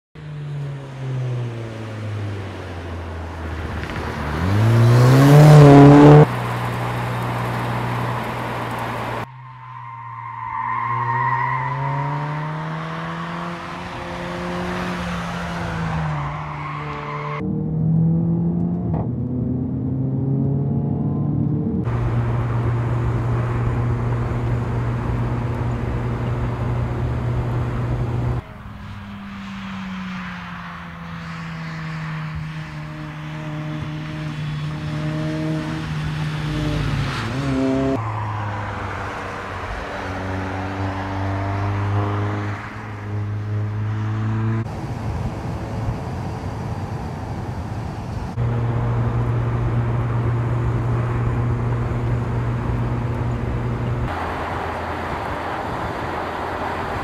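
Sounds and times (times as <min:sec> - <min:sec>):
car engine accelerating hard: 0:00.6 - 0:09.3, 0:11.0 - 0:57.0.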